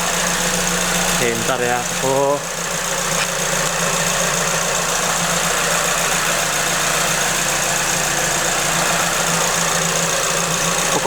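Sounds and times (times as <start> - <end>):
car engine idling: 0.0 - 11.0
supercharger belt drive whirring: 0.0 - 11.0.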